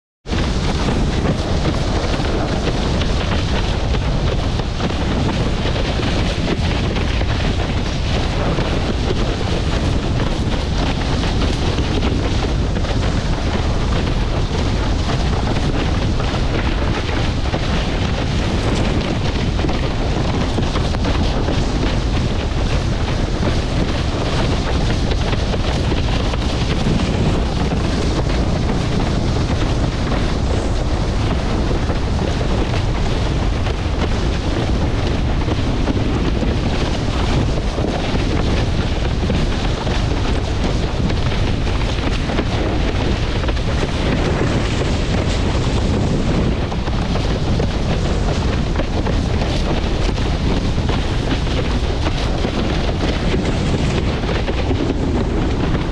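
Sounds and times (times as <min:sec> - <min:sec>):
wind buffeting microphone: 0:00.2 - 0:55.9.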